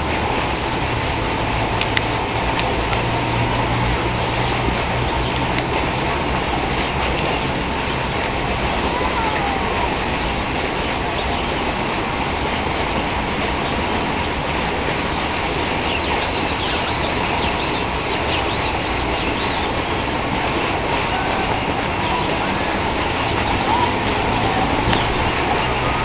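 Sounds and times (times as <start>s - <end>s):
fountain water splashing: 0.0s - 26.0s
birds chirping: 2.0s - 26.0s.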